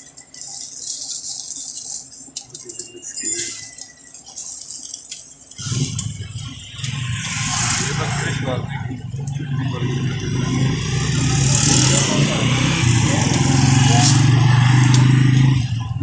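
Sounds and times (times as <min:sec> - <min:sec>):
food sizzling on hot plate: 0:00.0 - 0:16.0.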